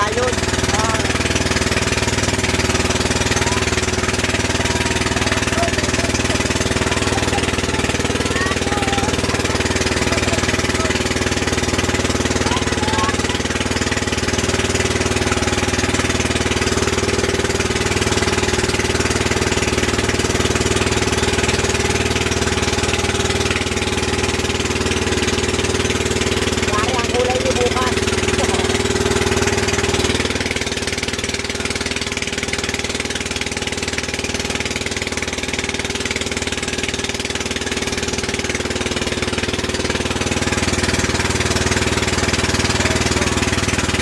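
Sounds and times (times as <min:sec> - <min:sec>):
boat engine chugging: 0:00.0 - 0:44.0.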